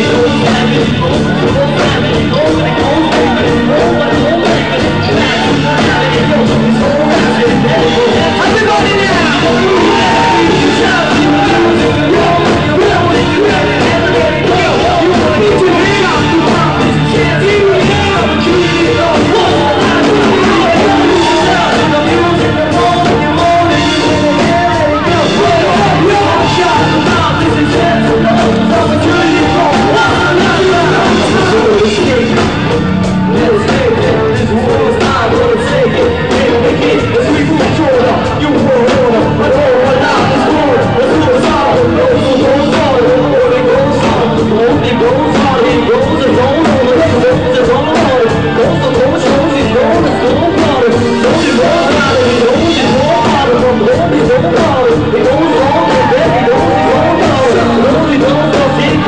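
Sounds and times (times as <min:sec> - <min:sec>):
drums: 0:00.0 - 0:59.0
keyboard: 0:00.0 - 0:59.0
live band playing loudly: 0:00.0 - 0:59.0
person singing: 0:00.0 - 0:59.0.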